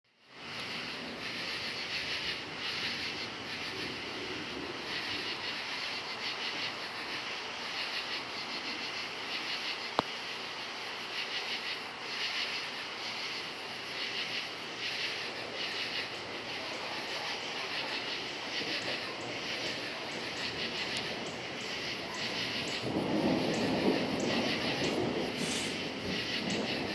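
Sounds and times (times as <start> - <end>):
crickets chirping: 0.1 - 26.9
low noisy background: 0.1 - 26.9.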